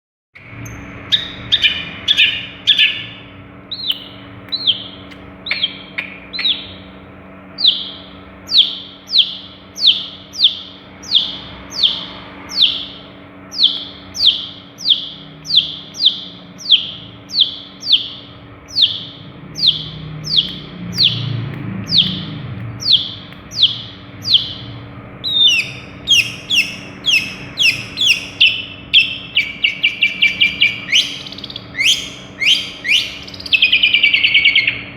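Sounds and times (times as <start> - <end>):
shrike singing: 0.4 - 34.9.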